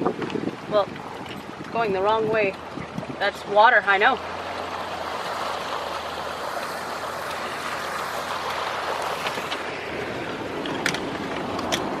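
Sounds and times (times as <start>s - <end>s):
car driving through water: 0.0s - 12.0s
wind on microphone: 0.0s - 12.0s.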